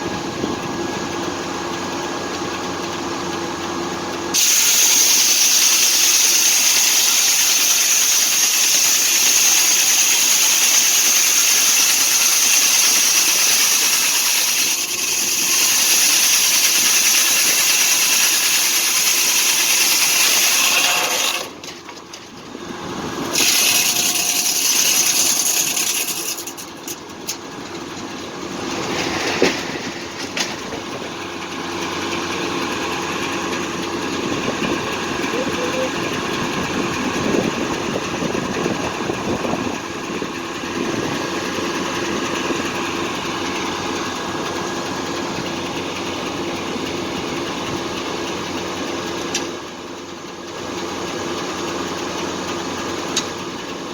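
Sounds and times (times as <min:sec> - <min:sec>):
sawmill blade cutting log: 0:04.3 - 0:22.3, 0:22.9 - 0:49.6.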